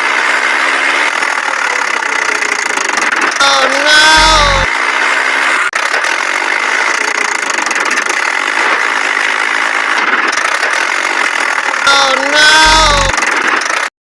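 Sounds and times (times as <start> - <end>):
toy motor rattling whirr: 0.0 - 13.9.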